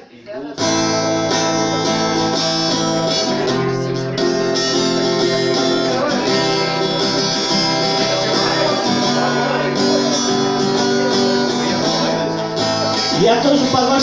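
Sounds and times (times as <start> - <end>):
guitar strumming chords: 0.6 - 14.0.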